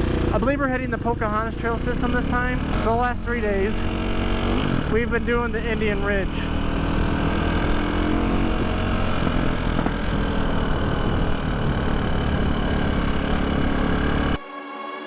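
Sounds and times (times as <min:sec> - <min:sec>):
motorcycle engine running steadily: 0:00.0 - 0:14.4.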